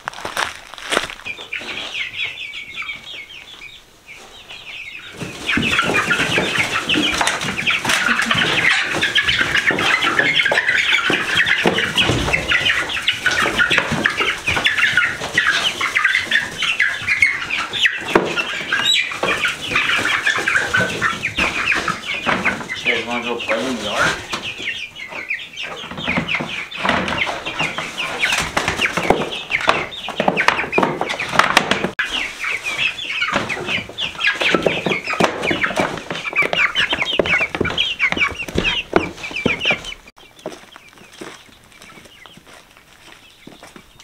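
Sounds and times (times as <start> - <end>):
young chickens peeping and clucking: 0.0 - 44.0.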